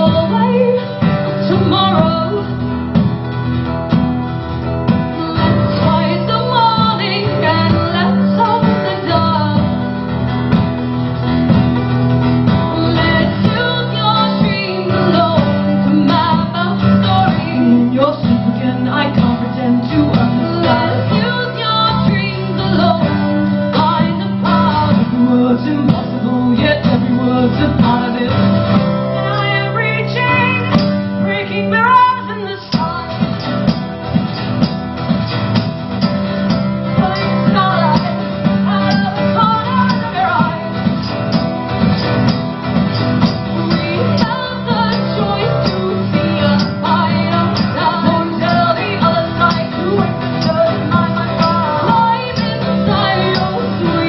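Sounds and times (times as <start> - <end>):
woman singing: 0.0 - 2.7, 4.9 - 10.2, 12.4 - 33.8, 36.5 - 42.4, 43.2 - 54.0
strummed acoustic guitar: 0.0 - 54.0.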